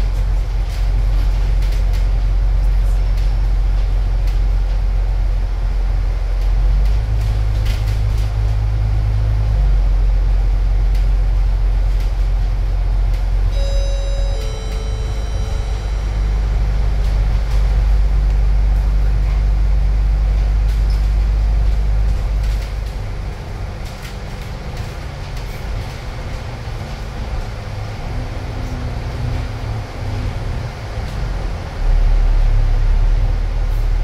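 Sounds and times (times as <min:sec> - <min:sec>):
bus engine and road rumble: 0:00.0 - 0:34.0.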